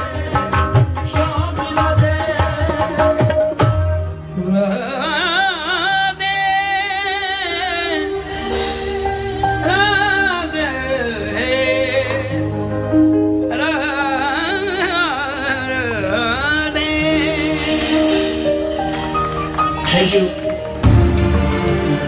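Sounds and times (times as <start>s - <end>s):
man singing into a microphone: 0.0s - 18.6s.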